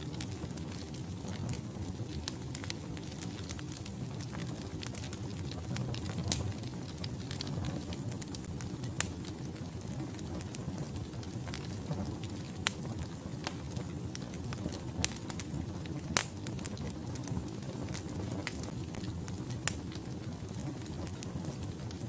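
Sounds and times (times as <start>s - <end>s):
burning logs popping: 0.0s - 22.0s
fire crackling in fireplace: 0.0s - 22.0s.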